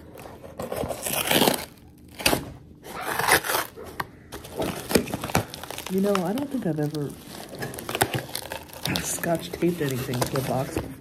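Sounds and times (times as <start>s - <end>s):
cardboard box ripping: 0.1s - 3.8s, 4.4s - 10.8s.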